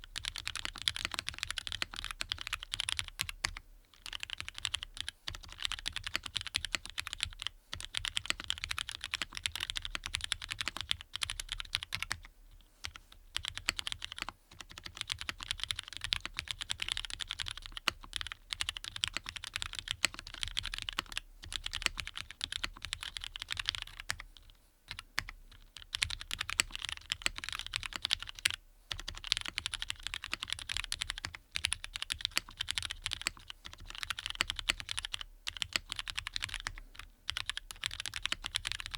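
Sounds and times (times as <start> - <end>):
fast typing on mechanical keyboard: 0.1 - 12.3, 12.9 - 38.9.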